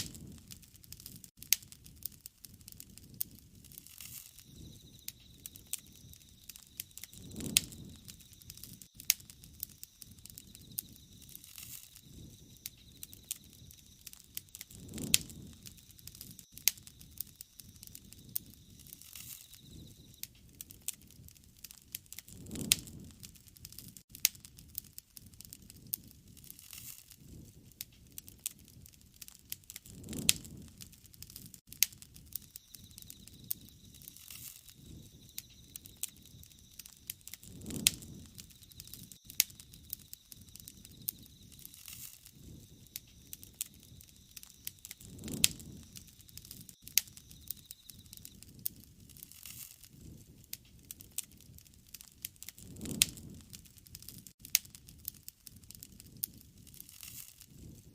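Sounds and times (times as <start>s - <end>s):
low rush of flame: 0.0s - 57.9s
wood fire crackling and popping: 0.0s - 57.9s.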